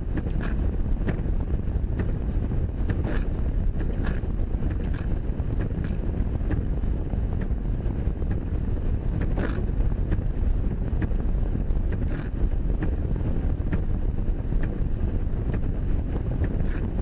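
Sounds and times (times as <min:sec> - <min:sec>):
wind blowing over microphone: 0:00.0 - 0:17.0
faint ticks: 0:00.1 - 0:17.0.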